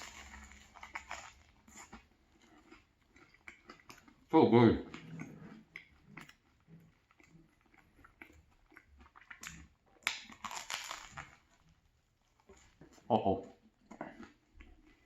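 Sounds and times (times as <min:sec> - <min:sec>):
chewing crusty bread: 0:00.0 - 0:15.0.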